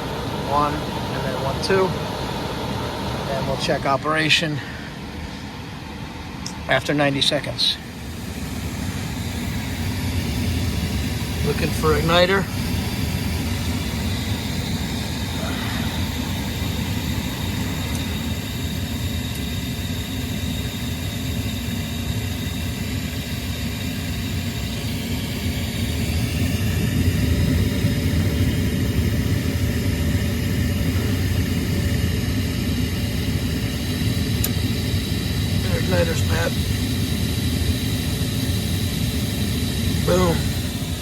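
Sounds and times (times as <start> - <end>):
furnace motors humming: 0.0 - 41.0.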